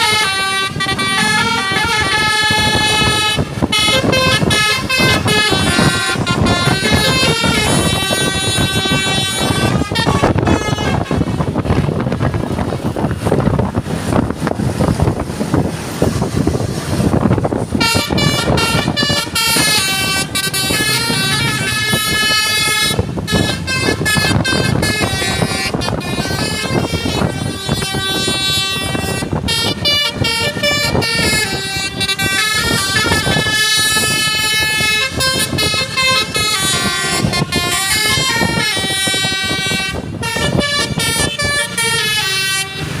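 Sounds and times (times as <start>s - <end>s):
bus air horn playing a melody: 0.0s - 13.0s, 17.6s - 43.0s
vehicle noise: 0.0s - 43.0s.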